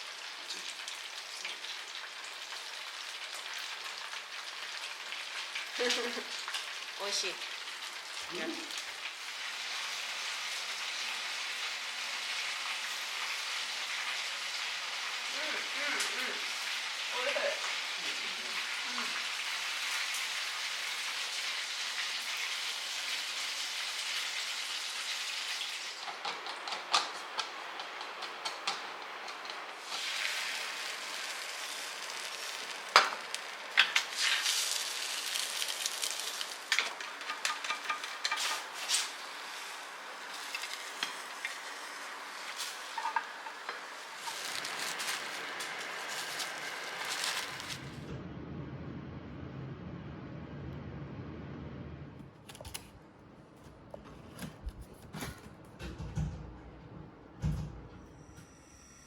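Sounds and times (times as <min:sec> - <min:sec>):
rain hissing: 0:00.0 - 0:48.2.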